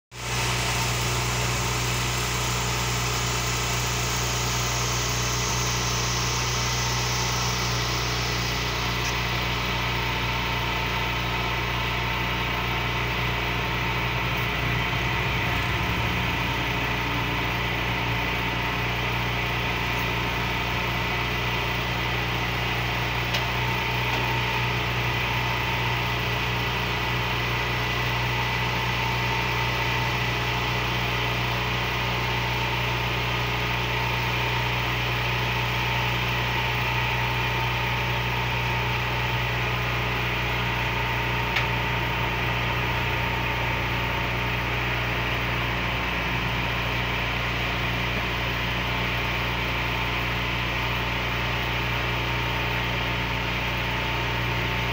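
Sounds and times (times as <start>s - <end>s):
engine idling: 0.1s - 54.9s.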